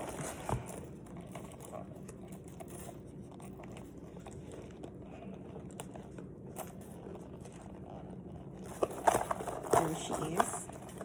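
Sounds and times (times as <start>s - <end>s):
handbag rustling: 0.0s - 11.0s.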